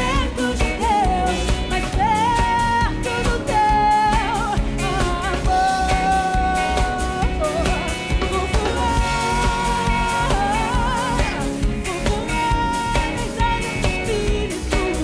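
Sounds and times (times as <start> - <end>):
instrumental accompaniment: 0.0 - 15.0
woman singing gospel: 0.0 - 15.0.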